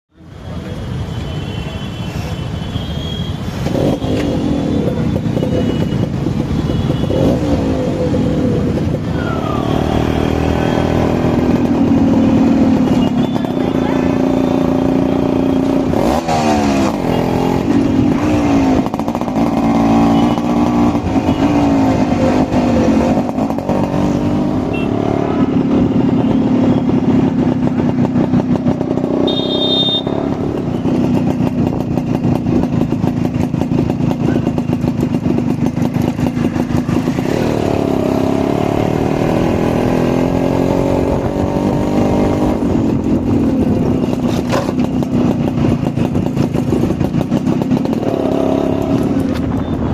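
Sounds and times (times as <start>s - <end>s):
motorcycle engine revving: 3.5s - 49.9s.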